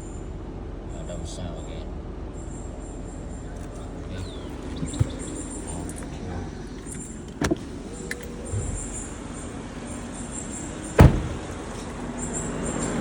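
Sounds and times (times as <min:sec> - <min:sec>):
car engine idling: 0:00.9 - 0:13.0.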